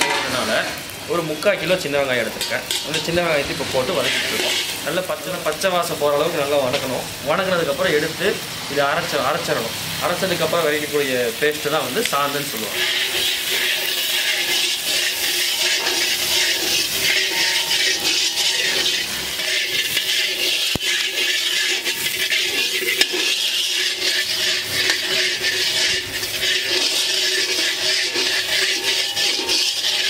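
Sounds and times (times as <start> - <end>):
metal ladle scraping a pan: 0.0 - 6.8, 9.1 - 30.0
spices sizzling in hot oil: 0.0 - 30.0.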